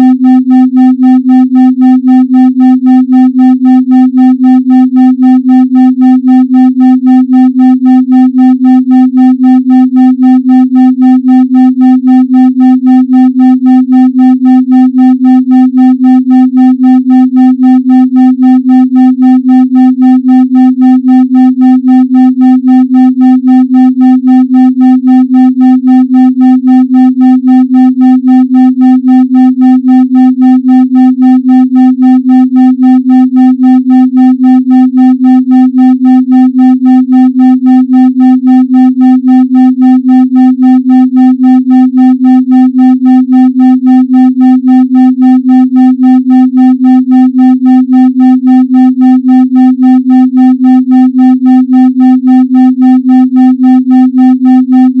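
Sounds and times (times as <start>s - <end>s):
pulsing electronic tone: 0.0s - 55.0s.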